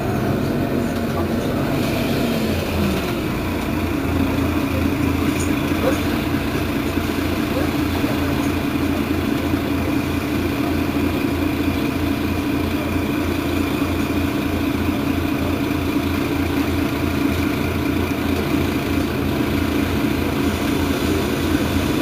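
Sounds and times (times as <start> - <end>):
bus diesel engine idling: 0.0 - 22.0.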